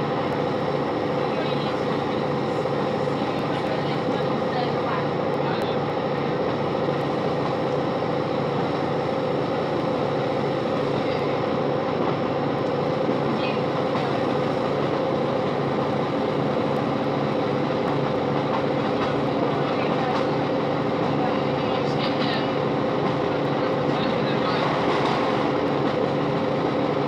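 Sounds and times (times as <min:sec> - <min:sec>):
train interior hum: 0:00.0 - 0:27.0.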